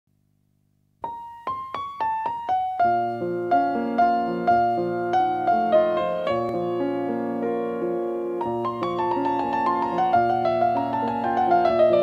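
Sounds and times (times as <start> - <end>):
piano notes and chords: 1.0 - 12.0.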